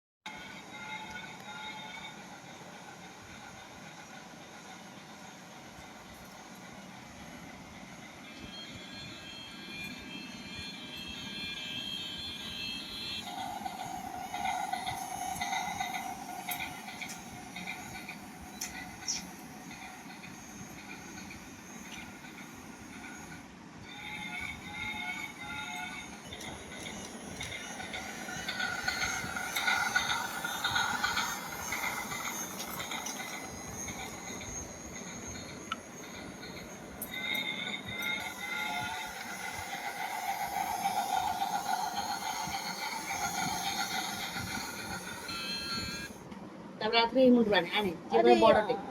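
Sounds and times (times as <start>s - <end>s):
high squeals and clicks: 0.3s - 2.8s, 5.8s - 46.4s
train rumbling: 0.3s - 48.9s
steady high tone: 5.7s - 48.9s.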